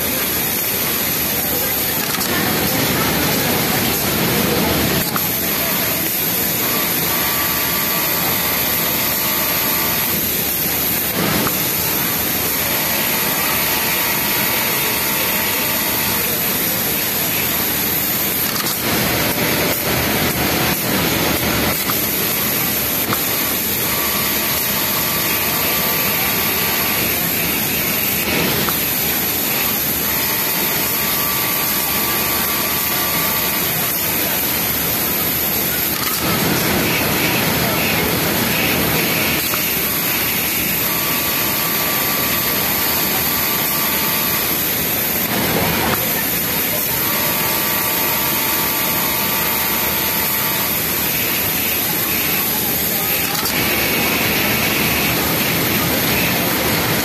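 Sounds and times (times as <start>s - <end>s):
factory machines din: 0.0s - 57.0s
sewing machine motor whining: 0.0s - 57.0s.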